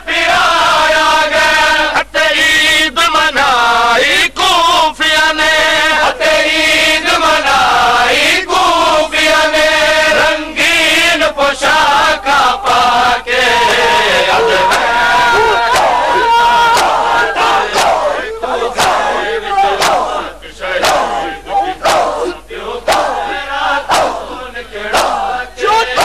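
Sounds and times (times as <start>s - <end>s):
men chanting rhythmically: 0.0s - 26.0s.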